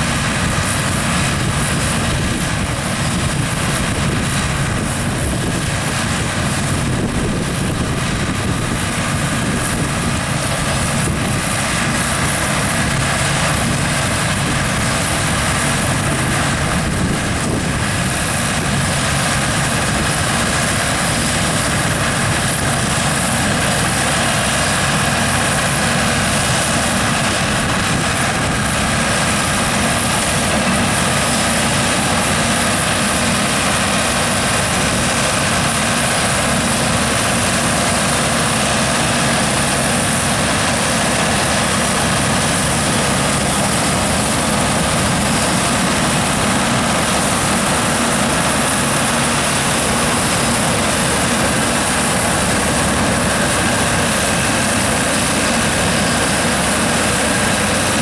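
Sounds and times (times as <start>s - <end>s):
combine threshing machinery whir: 0.0s - 58.0s
tractor engine drone: 0.0s - 58.0s.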